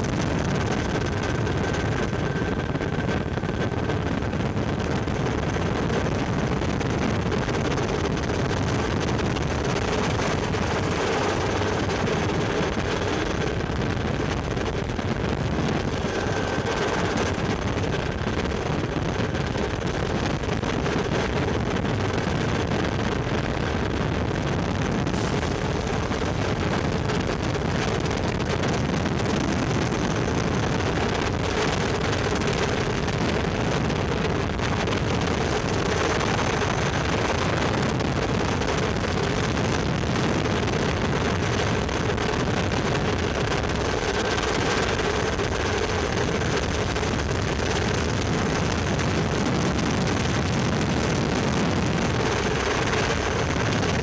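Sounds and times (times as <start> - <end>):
helicopter rotor and turbine drone: 0.0 - 54.0.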